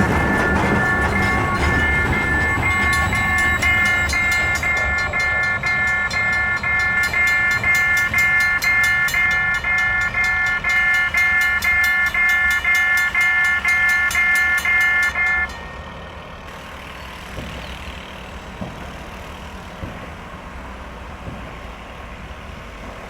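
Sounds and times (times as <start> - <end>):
level-crossing warning bell ringing: 0.0 - 18.5
freight train rumbling: 0.0 - 23.0.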